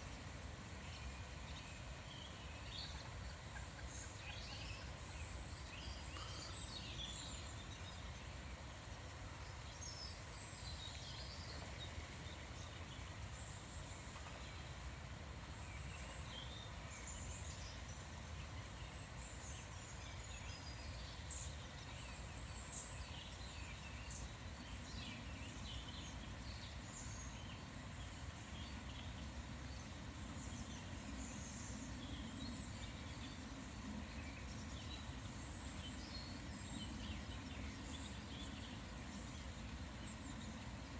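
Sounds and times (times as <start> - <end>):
low background noise: 0.0 - 40.9.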